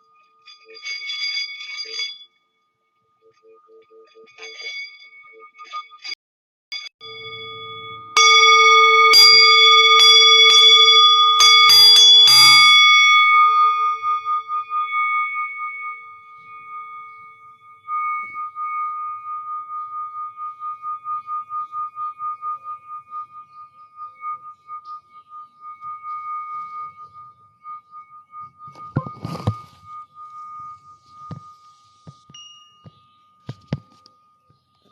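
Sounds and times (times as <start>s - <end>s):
metal singing bowls ringing: 0.0s - 6.2s, 6.8s - 34.9s.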